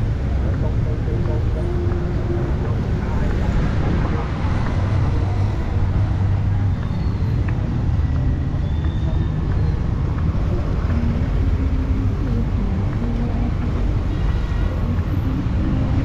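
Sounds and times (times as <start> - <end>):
faint voices: 0.0 - 16.0
passing traffic rumble: 0.0 - 16.0.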